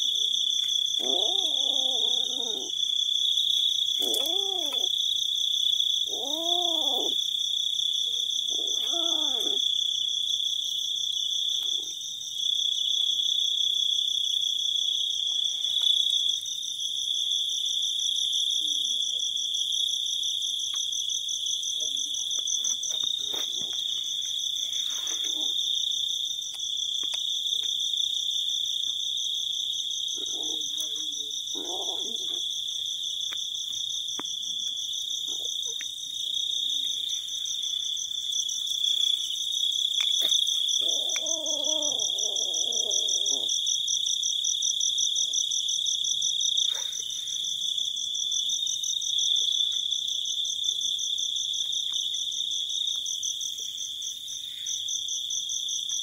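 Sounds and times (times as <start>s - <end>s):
night insects trilling: 0.0s - 56.0s.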